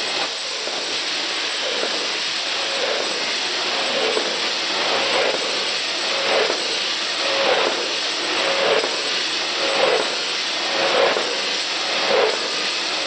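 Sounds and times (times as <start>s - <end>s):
repeating machine cycle: 0.0s - 13.0s.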